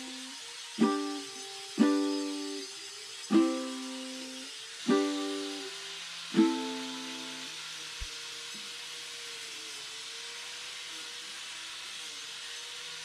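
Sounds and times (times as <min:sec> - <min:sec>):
angle grinder grinding wood: 0:00.0 - 0:13.0.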